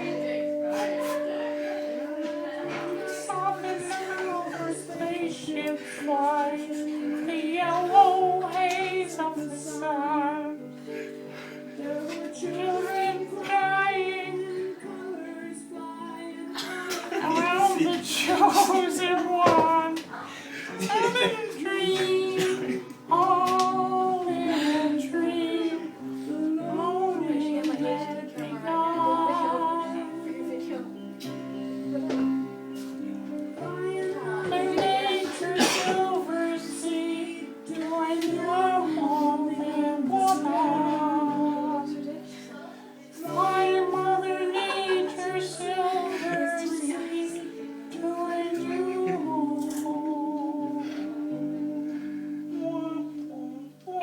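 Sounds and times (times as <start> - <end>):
person singing slow melody: 0.0 - 54.0.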